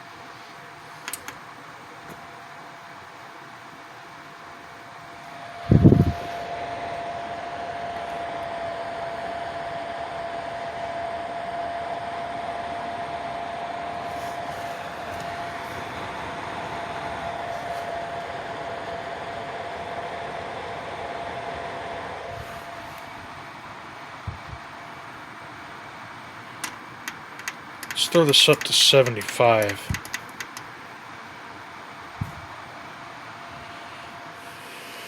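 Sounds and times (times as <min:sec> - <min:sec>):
fan heater blower running: 0:00.0 - 0:35.0
thin steady whine: 0:00.0 - 0:35.0.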